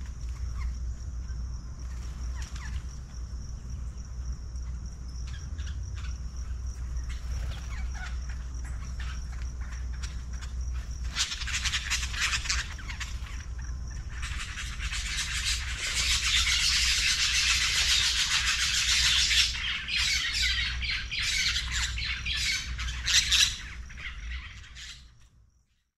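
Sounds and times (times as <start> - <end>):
birds squawking and chattering: 0.0 - 25.3.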